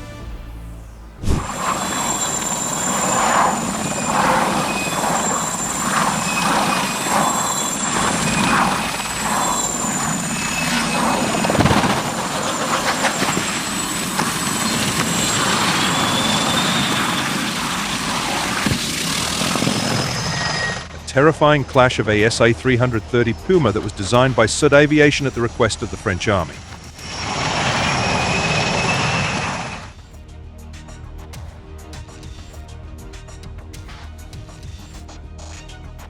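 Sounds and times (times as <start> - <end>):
helicopter turbine whine and rotor: 1.0 - 30.3.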